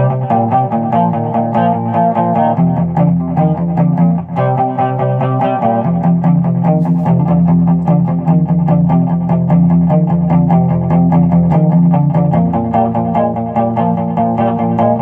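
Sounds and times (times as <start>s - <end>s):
electric guitar boogie riff: 0.0s - 15.0s.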